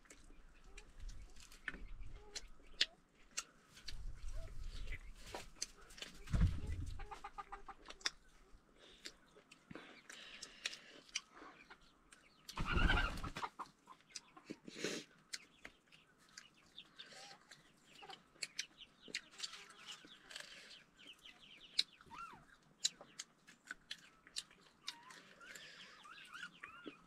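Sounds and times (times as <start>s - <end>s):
clicks of eating and chewing: 0.0s - 12.6s, 13.5s - 27.0s
chickens clucking: 0.1s - 27.0s.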